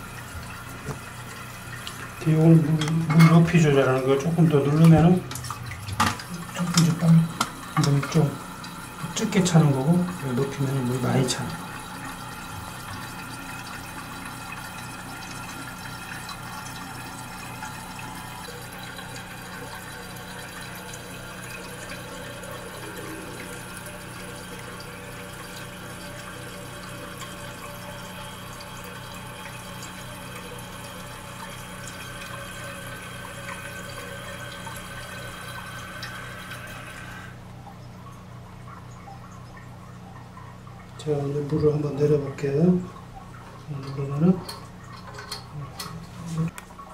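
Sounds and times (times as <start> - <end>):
toilet cistern refilling: 0.0 - 46.9.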